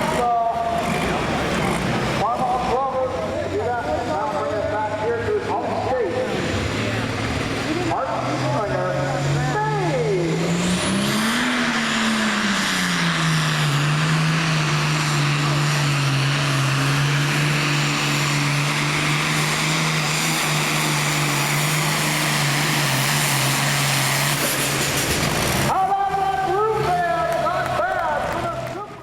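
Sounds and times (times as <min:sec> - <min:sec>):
exhaust and turbo hiss: 0:00.0 - 0:25.8
diesel engine droning under load: 0:00.0 - 0:29.0.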